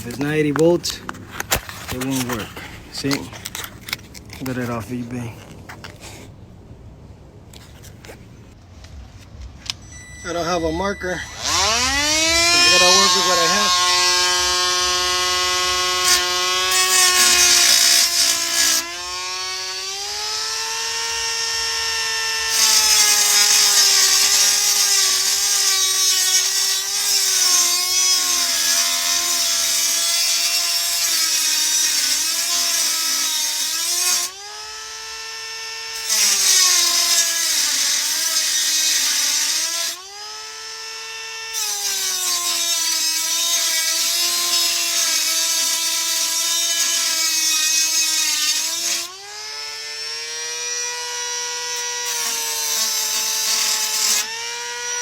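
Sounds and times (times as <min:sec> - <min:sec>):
hole saw grinding: 0:00.0 - 0:06.3, 0:09.7 - 0:55.0
electric drill motor whine: 0:09.7 - 0:55.0.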